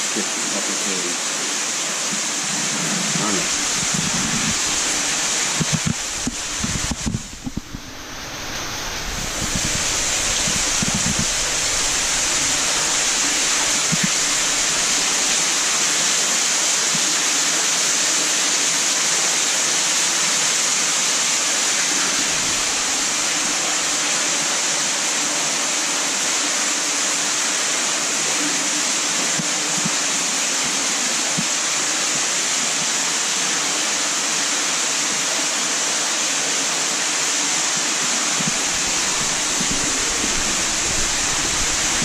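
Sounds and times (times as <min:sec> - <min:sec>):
flowing water: 0:00.0 - 0:42.0.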